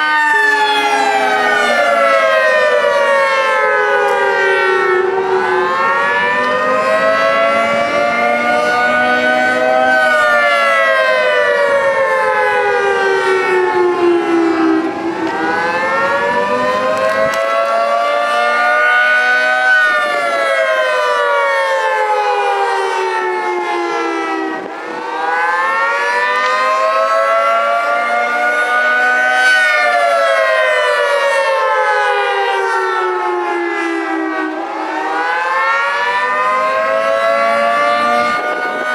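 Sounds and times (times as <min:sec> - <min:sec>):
civil defence siren wailing: 0:00.0 - 0:38.9.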